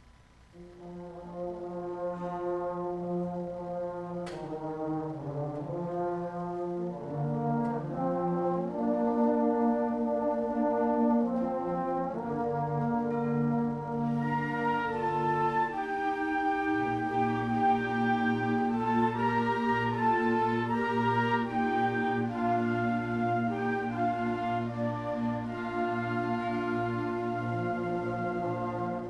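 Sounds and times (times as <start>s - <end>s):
concert band playing brass chords: 0.6s - 29.0s.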